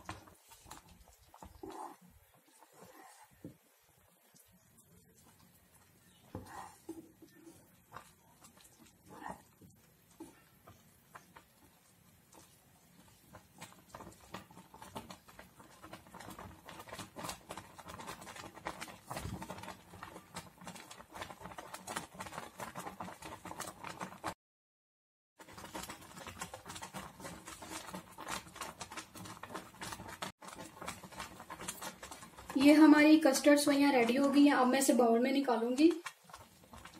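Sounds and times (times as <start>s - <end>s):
custard bubbling in a saucepan: 0.0s - 24.4s, 25.4s - 36.9s.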